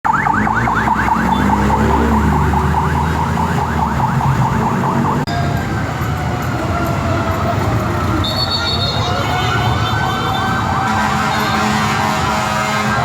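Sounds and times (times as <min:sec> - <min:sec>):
fire engine siren yelping: 0:00.0 - 0:13.0
truck engine rumble: 0:00.0 - 0:13.0.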